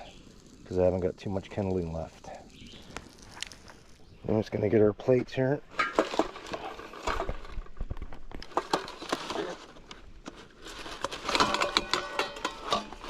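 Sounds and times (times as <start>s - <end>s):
rustling: 0.0s - 4.7s, 5.3s - 13.0s.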